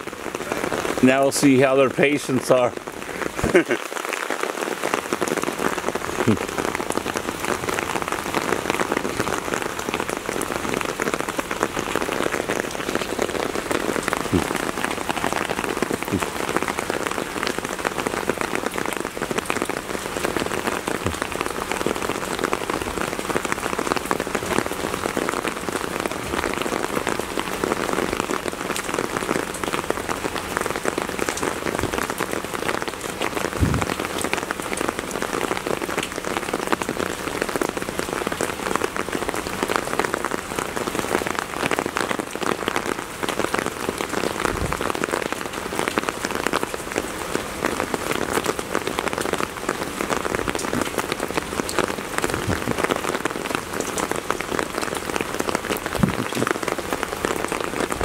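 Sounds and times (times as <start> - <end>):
heavy rain falling: 0.0 - 58.0
raindrops ticking on surfaces: 0.0 - 58.0.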